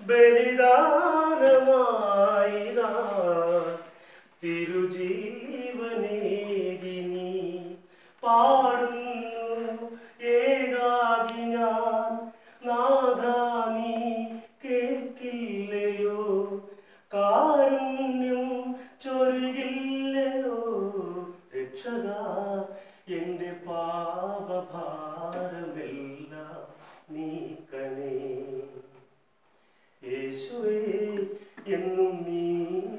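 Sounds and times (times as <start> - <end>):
man singing unaccompanied: 0.0 - 29.1, 30.0 - 32.9.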